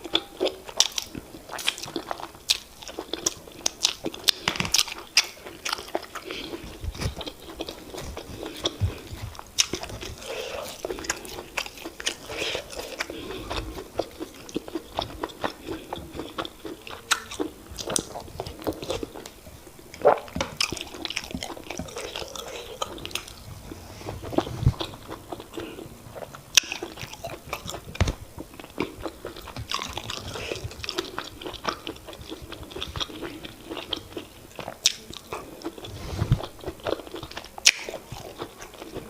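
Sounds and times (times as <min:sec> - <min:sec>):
wet chewing and smacking: 0:00.0 - 0:39.0.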